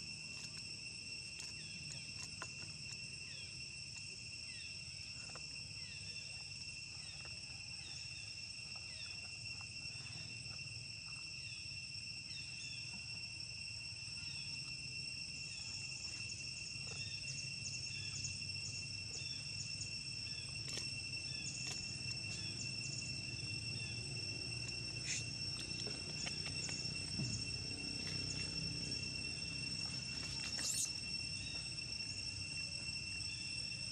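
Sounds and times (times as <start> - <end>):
high-pitched insect drone: 0.0 - 33.9
insect chirps: 0.0 - 33.9.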